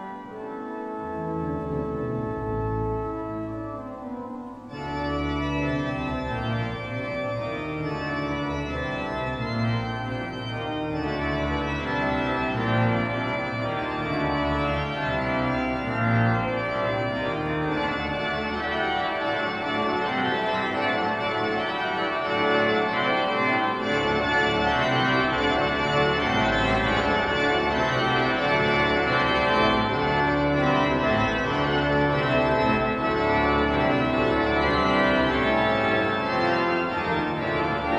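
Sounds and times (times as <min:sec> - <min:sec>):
organ music: 0:00.0 - 0:37.9.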